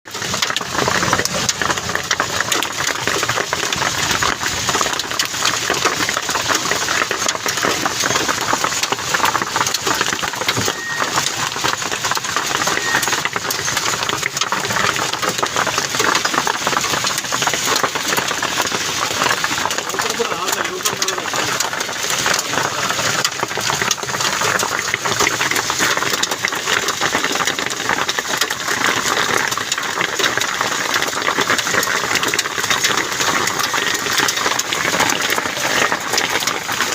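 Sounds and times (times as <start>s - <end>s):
heavy rain on hard surfaces: 0.1s - 36.9s.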